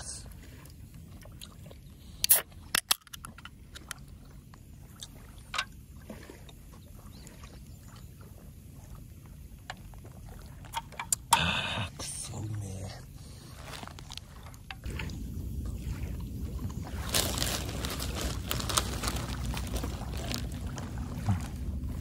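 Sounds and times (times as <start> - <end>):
lake water lapping: 0.0 - 22.0.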